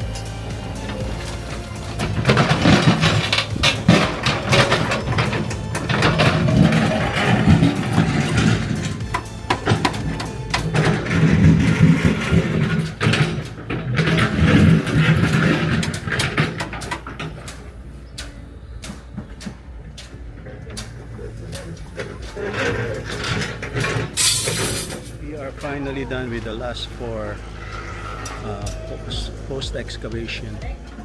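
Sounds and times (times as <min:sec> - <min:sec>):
backhoe engine running: 0:00.0 - 0:31.0
metal clanks and knocks: 0:00.0 - 0:31.0.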